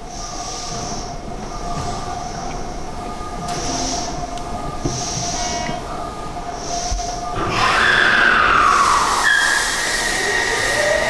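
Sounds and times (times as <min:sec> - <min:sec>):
electric train equipment whine: 0:00.0 - 0:11.0
high hiss: 0:00.0 - 0:11.0.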